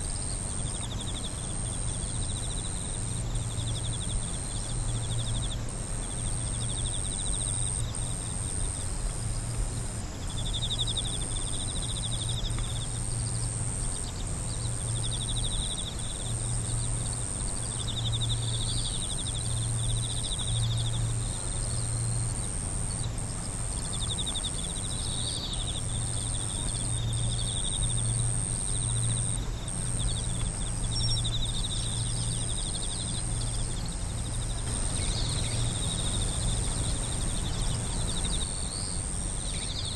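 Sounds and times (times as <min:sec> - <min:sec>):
high-pitched insect trill: 0:00.0 - 0:39.9
low pulsing hum: 0:00.0 - 0:39.9
rapid pulsed insect chirping: 0:00.0 - 0:39.9.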